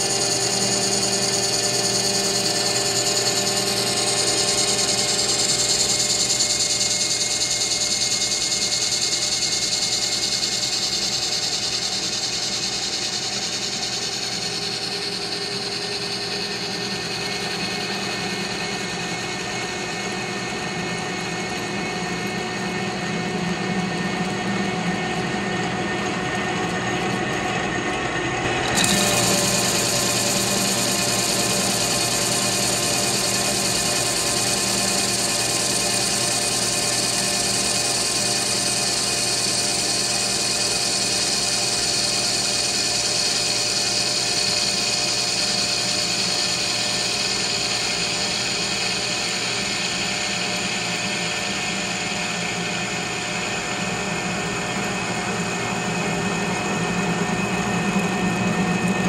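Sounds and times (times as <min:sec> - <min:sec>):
metal lathe cutting steel: 0:00.0 - 0:24.8, 0:28.5 - 0:59.0.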